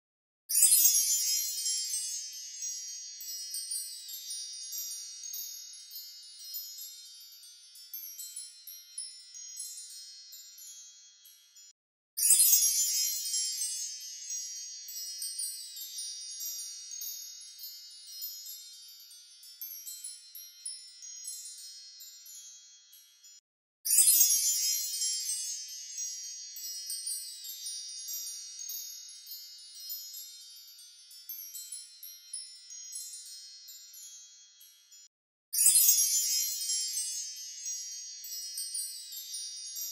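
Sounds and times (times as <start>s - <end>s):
magic sparkle chime shimmer: 0.5s - 39.9s.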